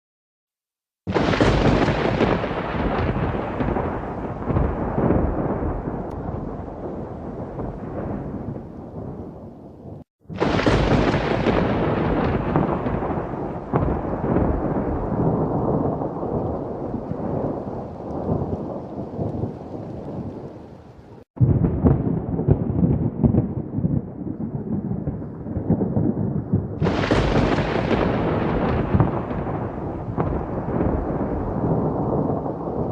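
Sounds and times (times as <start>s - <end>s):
loud thunderclap: 1.1s - 20.6s, 21.4s - 32.9s
rumbling thunder: 1.1s - 20.7s, 21.4s - 32.9s
rain: 1.1s - 32.9s.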